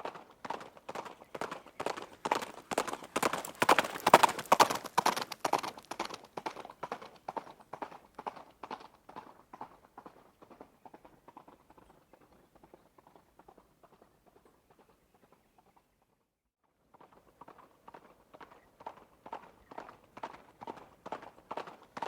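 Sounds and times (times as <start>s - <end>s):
horse hoofbeats at a run: 0.0s - 16.2s, 16.8s - 22.0s.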